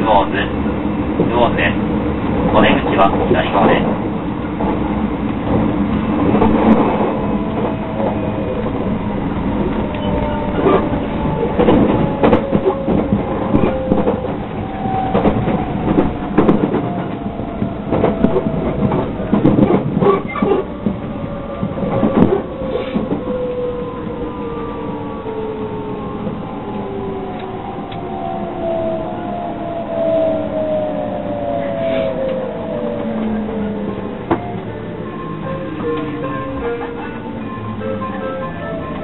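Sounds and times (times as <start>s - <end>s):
train running rumble: 0.0s - 39.0s.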